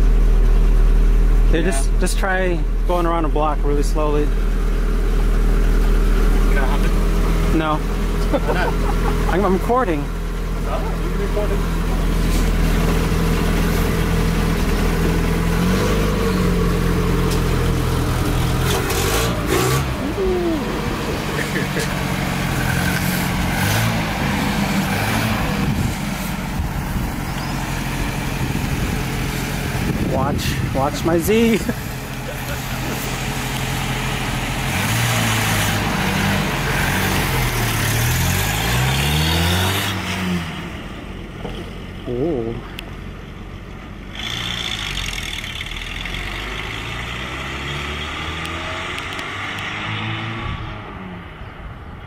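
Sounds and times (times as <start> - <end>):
car engine at low revs: 0.0 - 52.0.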